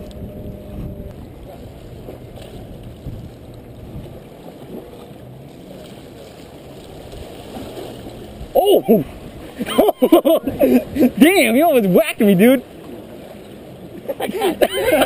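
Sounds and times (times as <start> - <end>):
water lapping against rocks: 0.0 - 15.0.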